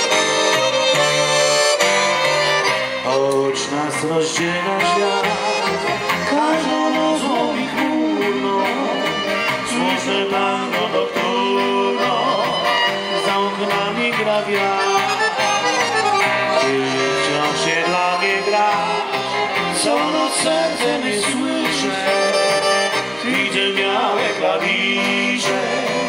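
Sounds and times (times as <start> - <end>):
accordions playing a tune: 0.0 - 26.0
banjo: 0.0 - 26.0
violin: 0.0 - 26.0.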